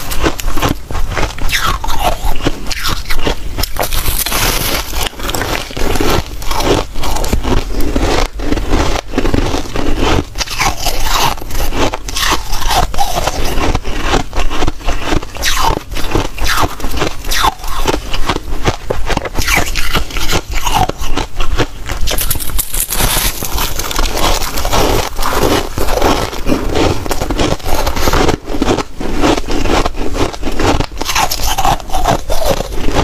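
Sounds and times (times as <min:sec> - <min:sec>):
frost being chewed crunching: 0:00.0 - 0:33.0.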